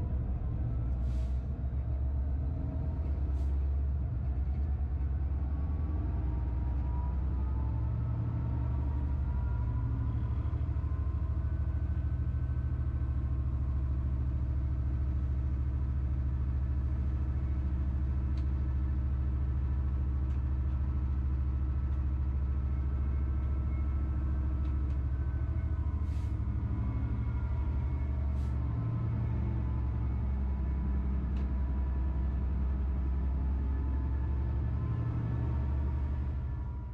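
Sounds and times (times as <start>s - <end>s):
train rumbling on the track: 0.0s - 36.9s.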